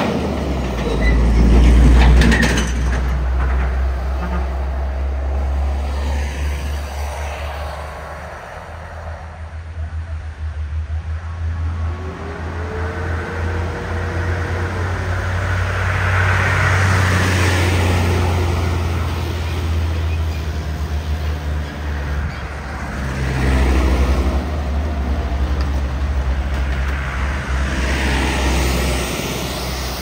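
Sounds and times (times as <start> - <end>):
truck engines droning: 0.0 - 30.0
tyre and road noise: 0.0 - 30.0.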